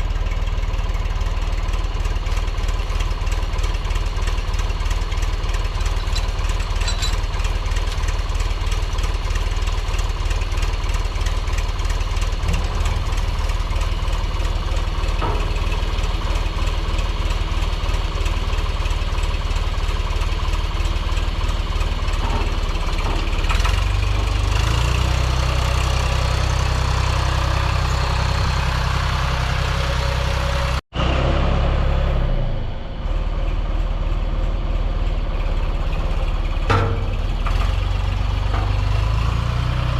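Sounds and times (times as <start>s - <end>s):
gasoline engine running: 0.0s - 31.7s, 32.6s - 39.9s.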